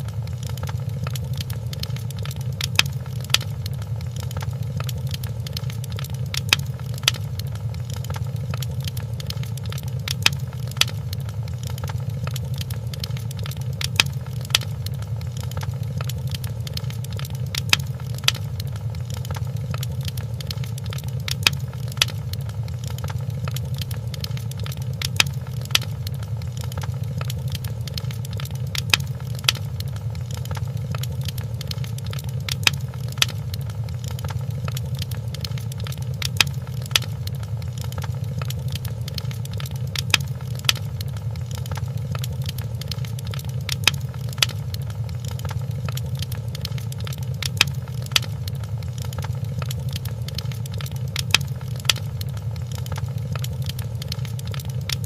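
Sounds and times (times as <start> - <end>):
sharp pops of fire: 0.0 - 55.0
wood fire crackling: 0.0 - 55.0.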